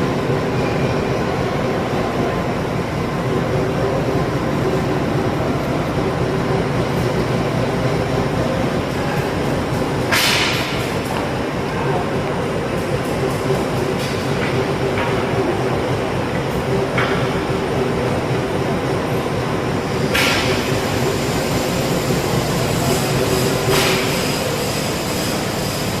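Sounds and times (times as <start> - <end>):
machine mechanical hum: 0.0 - 26.0.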